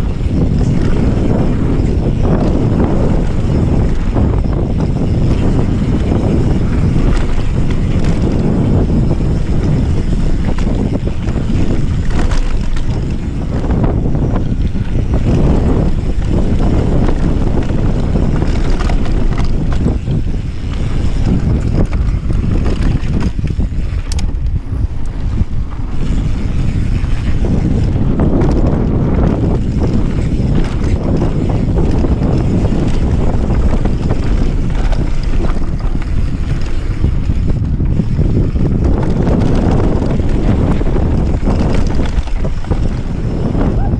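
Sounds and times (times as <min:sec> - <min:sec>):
bike tyres rumbling on dirt: 0:00.0 - 0:43.9
wind on microphone: 0:00.0 - 0:43.9.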